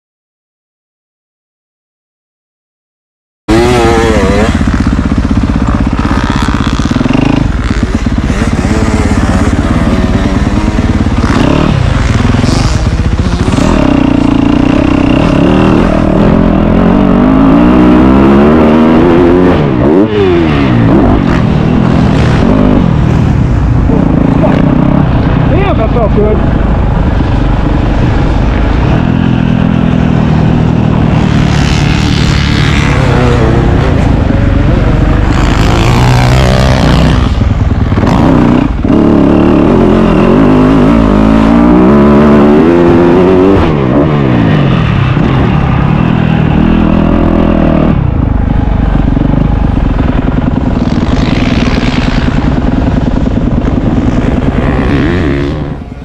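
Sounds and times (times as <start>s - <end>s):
dirt bike engine revving: 3.5s - 56.0s.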